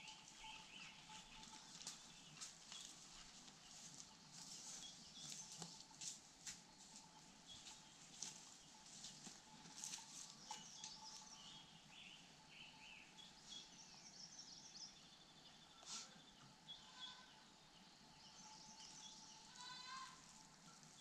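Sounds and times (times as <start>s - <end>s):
birds chirping and trilling: 0.0s - 6.1s, 6.7s - 21.0s.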